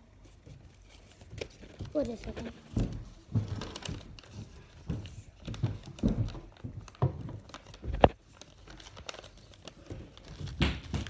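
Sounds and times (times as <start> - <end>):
paper folding and rustling: 0.0 - 11.0.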